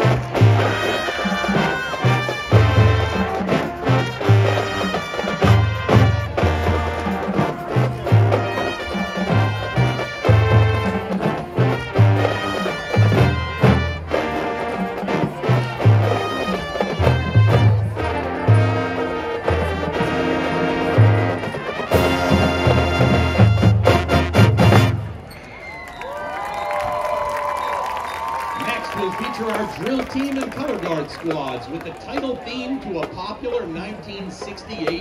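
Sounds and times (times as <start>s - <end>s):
marching band playing: 0.0s - 25.3s, 26.3s - 35.0s.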